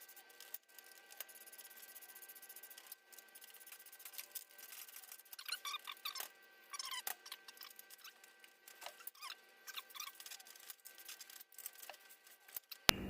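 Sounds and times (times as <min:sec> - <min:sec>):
ratcheting wrench squeaks and clicks: 0:00.0 - 0:12.0.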